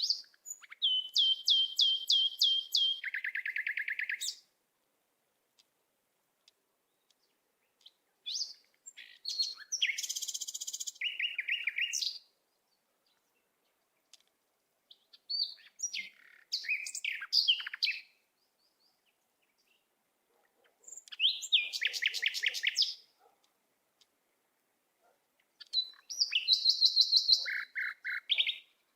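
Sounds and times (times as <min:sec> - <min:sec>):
songbird chirping and trilling: 0:00.0 - 0:04.6, 0:06.4 - 0:23.4, 0:24.0 - 0:28.9.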